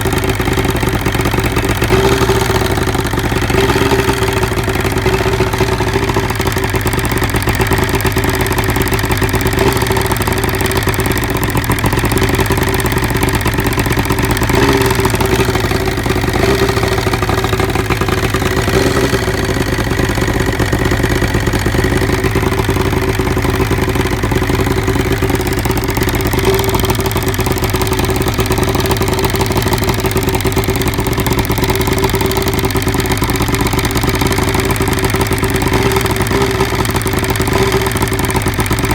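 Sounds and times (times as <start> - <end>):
outboard motor idling: 0.0 - 38.9.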